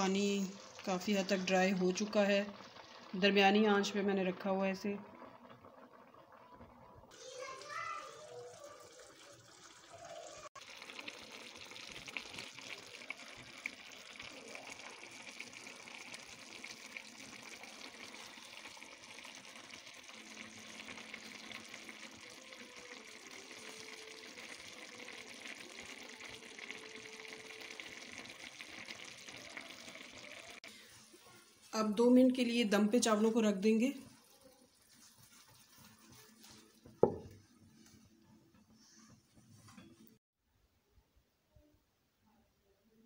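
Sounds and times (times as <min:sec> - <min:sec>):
rice simmering with hiss and crackles: 0:00.0 - 0:40.2.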